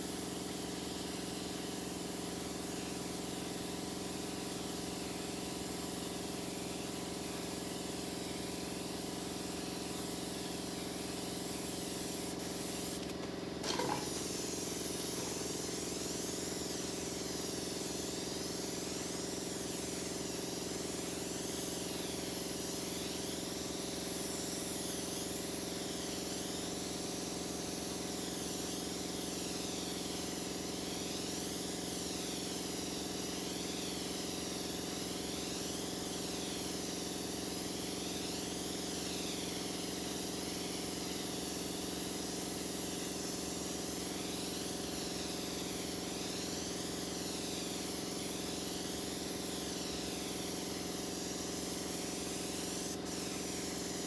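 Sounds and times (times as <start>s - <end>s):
spray gun hissing: 5.0s - 27.8s, 31.0s - 54.0s.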